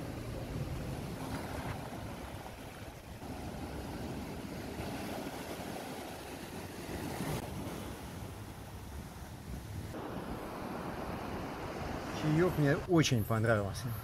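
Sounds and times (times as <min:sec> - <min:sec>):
sea waves rushing: 0:00.0 - 0:13.0.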